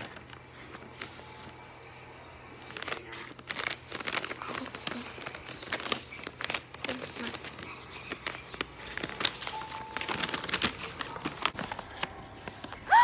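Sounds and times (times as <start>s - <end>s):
paper bag crinkling: 0.0s - 12.9s.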